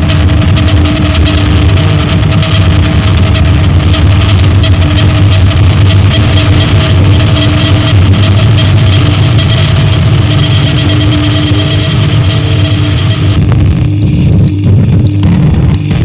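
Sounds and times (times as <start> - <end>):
loud droning music: 0.0 - 16.0.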